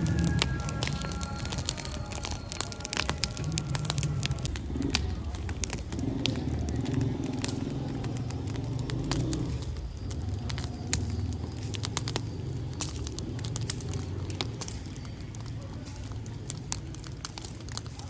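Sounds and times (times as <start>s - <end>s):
fire roaring: 0.0s - 18.0s
logs crackling and popping: 0.0s - 18.0s.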